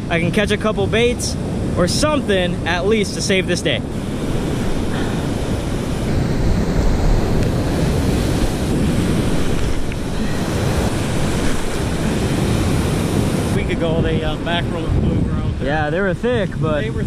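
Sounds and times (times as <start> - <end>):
surf breaking: 0.0 - 17.0
wind buffeting the microphone: 0.0 - 17.0.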